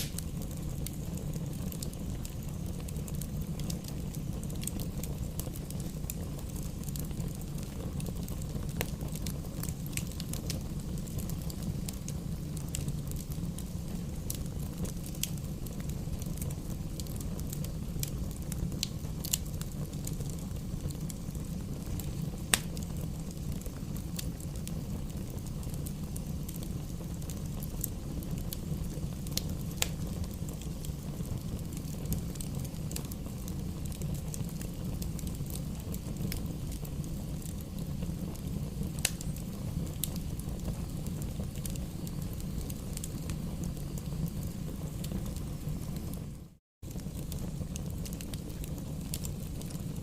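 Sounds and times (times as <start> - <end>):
campfire burning: 0.0 - 50.0
fire crackles and pops: 0.0 - 50.0.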